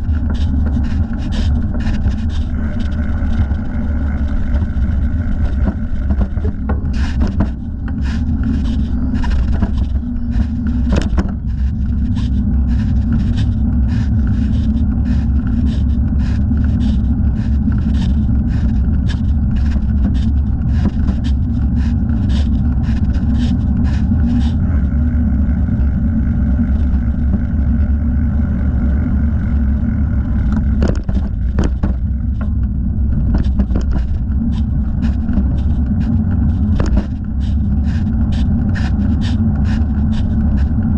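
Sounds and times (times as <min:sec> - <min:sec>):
light scraping tick: 0:00.0 - 0:24.6, 0:29.4 - 0:40.9
wind rumbling on microphone: 0:00.0 - 0:40.9.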